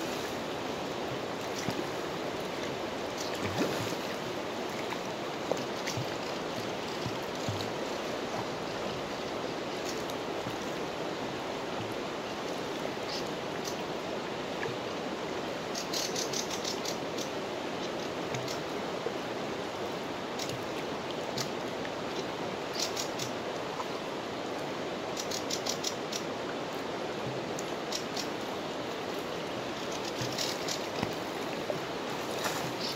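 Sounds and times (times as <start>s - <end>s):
river rushing: 0.0s - 32.9s.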